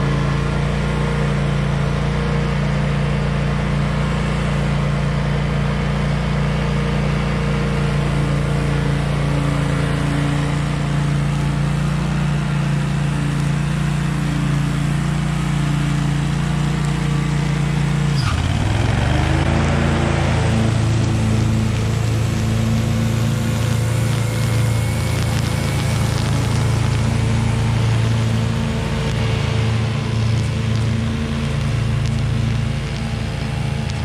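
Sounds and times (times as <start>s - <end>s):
mower engine running: 0.0s - 34.0s.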